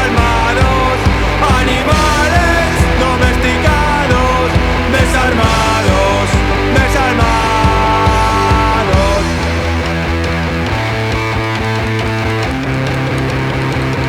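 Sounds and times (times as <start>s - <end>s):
drums steady beat: 0.0s - 12.8s
punk band playing: 0.0s - 14.0s.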